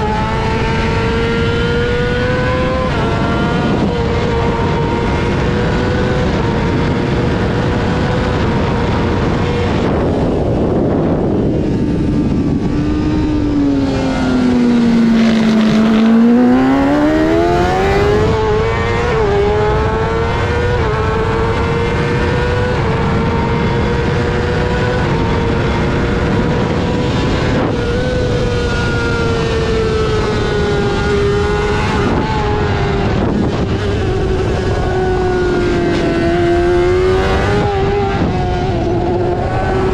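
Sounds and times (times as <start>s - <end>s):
motorcycle engine at high revs: 0.0s - 39.9s
wind noise: 0.0s - 39.9s.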